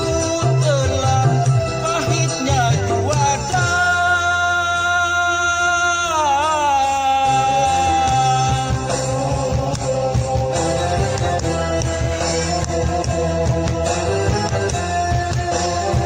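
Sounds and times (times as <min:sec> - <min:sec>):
song through sound system: 0:00.0 - 0:16.0.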